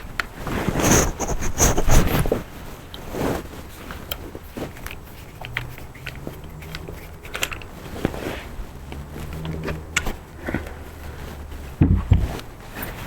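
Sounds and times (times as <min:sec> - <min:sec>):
rubbing and rustling: 0:00.0 - 0:13.0.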